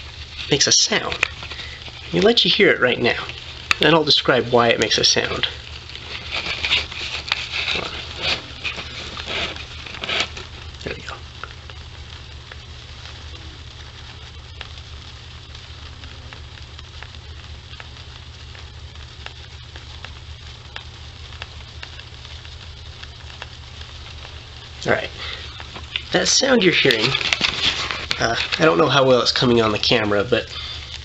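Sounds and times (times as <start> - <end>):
bees crackling in hive: 0.0 - 31.0.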